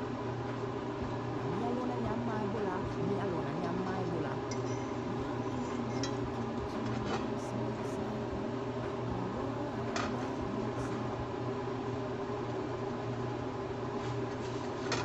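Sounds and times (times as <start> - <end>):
mechanical motor hum: 0.0 - 15.0.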